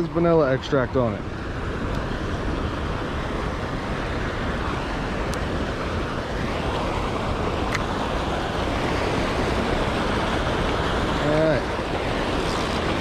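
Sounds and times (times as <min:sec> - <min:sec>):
water rushing through spillway: 0:00.0 - 0:13.0.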